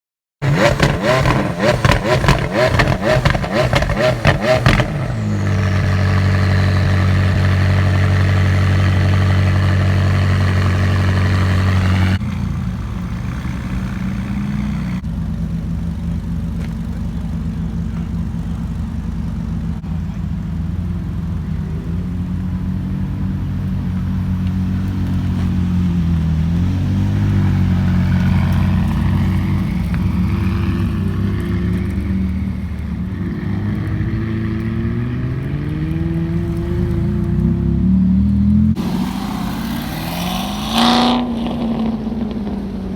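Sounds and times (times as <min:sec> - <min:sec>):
car engine revving: 0:00.4 - 0:42.9
exhaust crackles and pops: 0:00.4 - 0:42.9.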